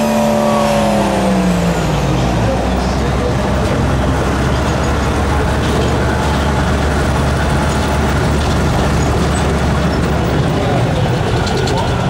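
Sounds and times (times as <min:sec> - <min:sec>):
diesel truck engine running hard: 0:00.0 - 0:12.0.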